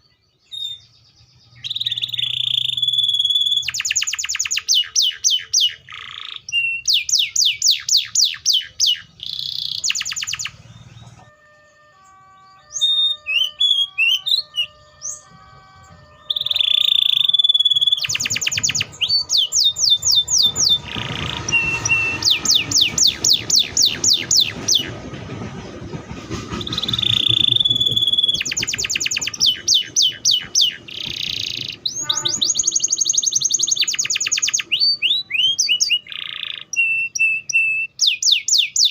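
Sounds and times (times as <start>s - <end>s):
canary singing trills: 0.0s - 11.2s, 11.9s - 25.0s, 26.6s - 38.9s.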